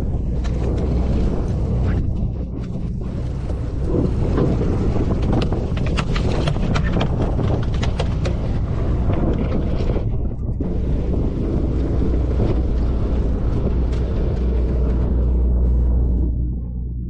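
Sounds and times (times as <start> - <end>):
boat engine rumbling: 0.0 - 17.0
wind buffeting microphone: 0.0 - 17.0.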